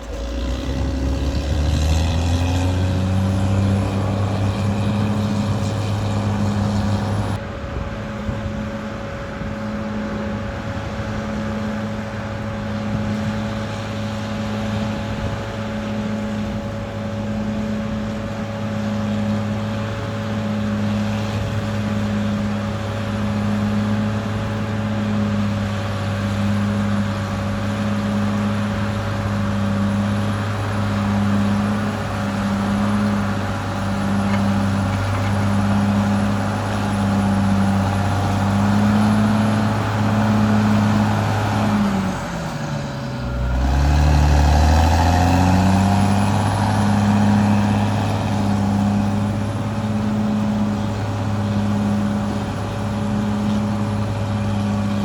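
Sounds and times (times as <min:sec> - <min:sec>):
bulldozer diesel engine under load: 0:00.0 - 0:55.0
steady high whine: 0:00.0 - 0:55.0.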